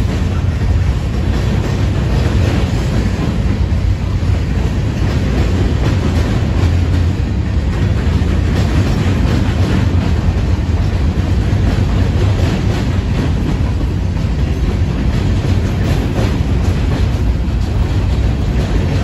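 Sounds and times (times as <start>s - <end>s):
steel wheels rumbling on rails: 0.0s - 19.0s
wheels clacking over rail joints: 0.0s - 19.0s.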